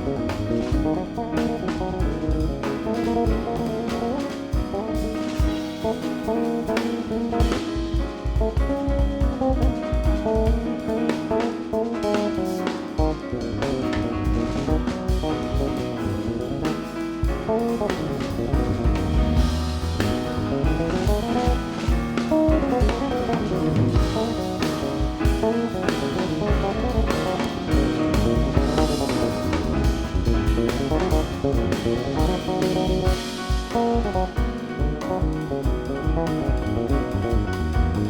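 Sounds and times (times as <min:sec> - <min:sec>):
double bass: 0:00.0 - 0:07.8, 0:08.4 - 0:38.0
drum kit: 0:00.0 - 0:38.0
piano: 0:00.0 - 0:38.0.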